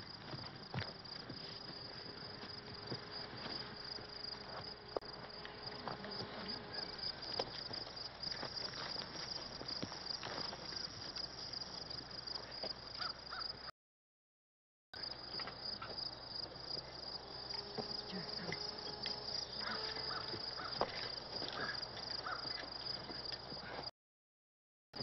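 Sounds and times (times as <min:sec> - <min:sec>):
crickets chirping: 0:00.0 - 0:13.7, 0:15.0 - 0:23.9.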